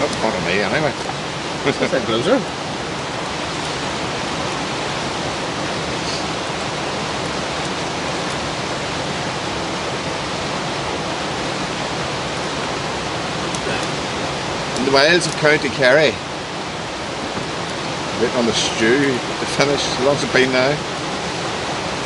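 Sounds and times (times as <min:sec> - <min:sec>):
campfire crackles: 0:00.0 - 0:22.0
rushing water: 0:00.0 - 0:22.0.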